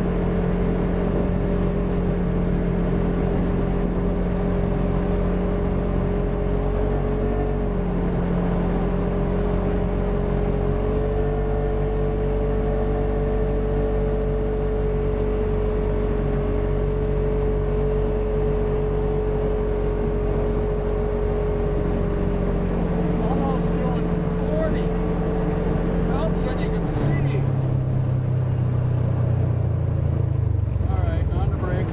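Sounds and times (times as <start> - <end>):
engine running with whine: 0.0 - 31.9.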